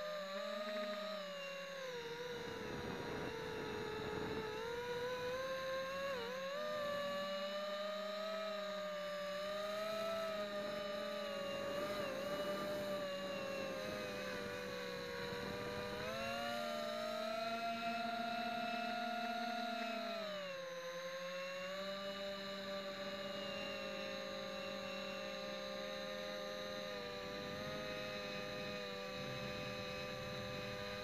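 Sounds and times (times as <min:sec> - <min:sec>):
quadcopter propellers whining: 0:00.0 - 0:31.0.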